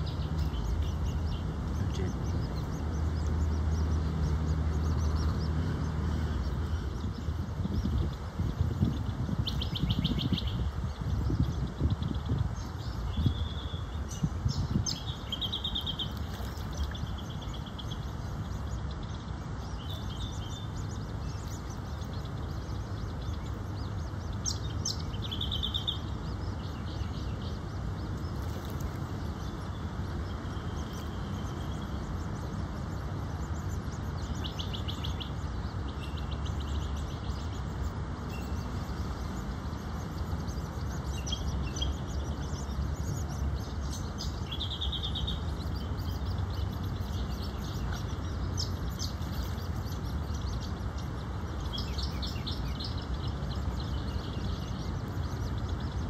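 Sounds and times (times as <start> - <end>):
birds chirping: 0.0 - 56.0
steady low rumble: 0.0 - 56.0.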